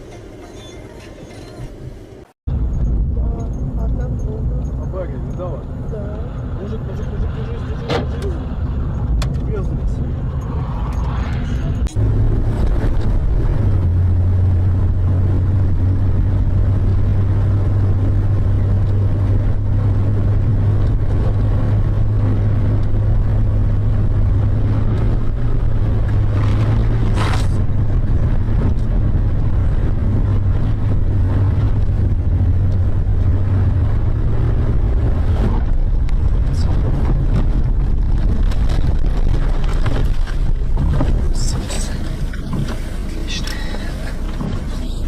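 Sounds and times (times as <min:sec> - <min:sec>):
road vehicle running: 0:00.0 - 0:45.0.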